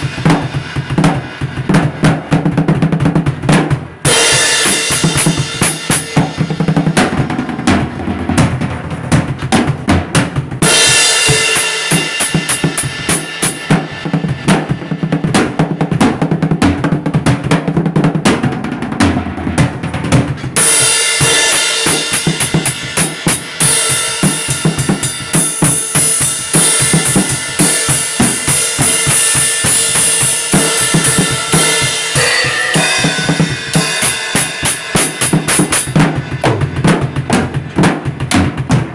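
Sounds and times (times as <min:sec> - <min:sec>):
drum-driven music: 0:00.0 - 0:38.9.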